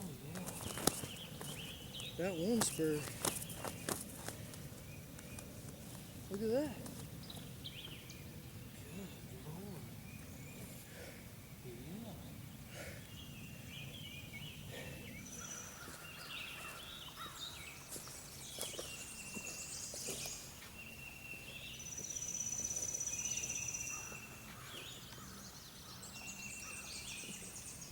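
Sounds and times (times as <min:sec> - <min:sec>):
songbirds chirping: 0:00.0 - 0:27.9.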